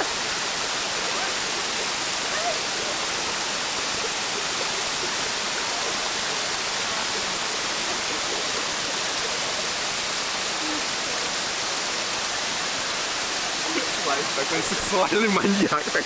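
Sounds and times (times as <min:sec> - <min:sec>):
waterfall splashing onto stones: 0:00.0 - 0:16.0.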